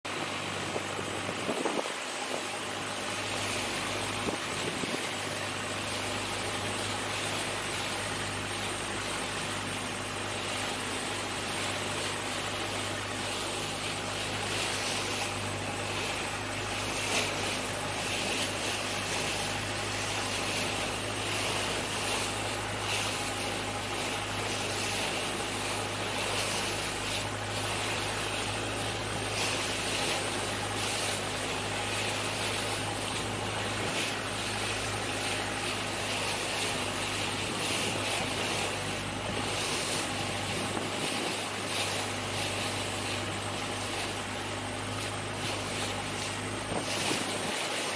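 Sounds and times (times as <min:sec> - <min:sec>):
boat engine droning: 0:00.0 - 0:47.9
wind and water rushing: 0:00.1 - 0:47.9.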